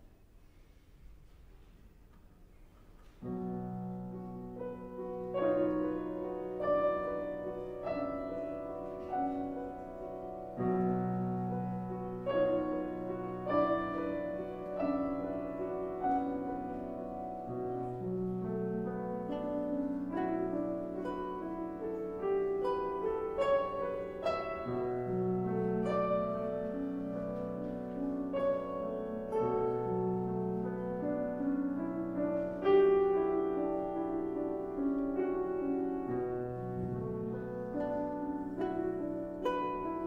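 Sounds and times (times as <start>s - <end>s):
classical piano passage: 0.0s - 40.0s.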